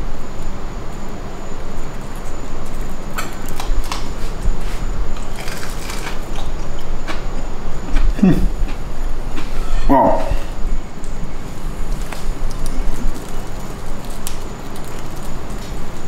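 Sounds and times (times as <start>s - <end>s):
steady low hum: 0.0s - 16.0s
crunchy biting and chewing: 0.9s - 10.6s, 11.5s - 16.0s.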